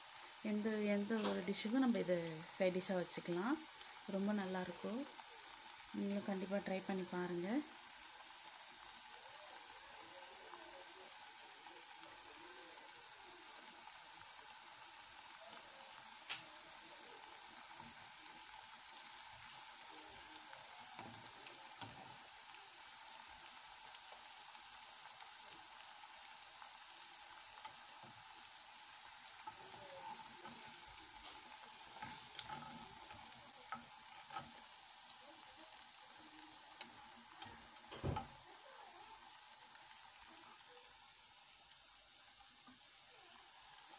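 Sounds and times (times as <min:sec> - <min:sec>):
food deep-frying in oil: 0:00.0 - 0:43.9.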